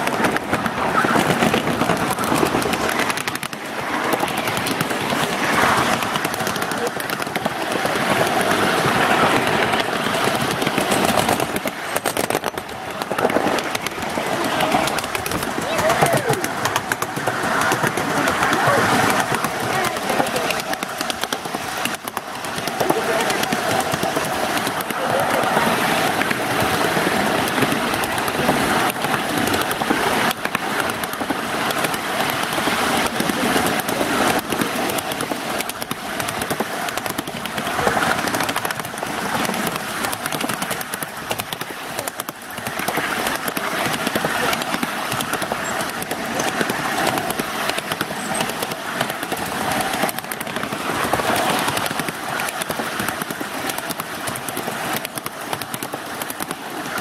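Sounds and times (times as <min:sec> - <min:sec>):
train wheels rattling on rails: 0:00.0 - 0:57.0.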